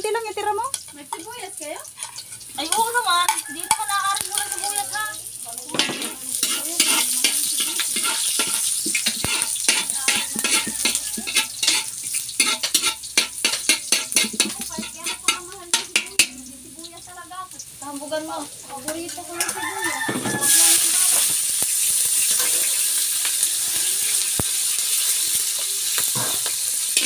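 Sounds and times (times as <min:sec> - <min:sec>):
onion sizzling in hot oil: 0:00.0 - 0:27.0
metal spoon scraping a wok: 0:00.5 - 0:05.0, 0:05.7 - 0:16.4, 0:18.8 - 0:27.0.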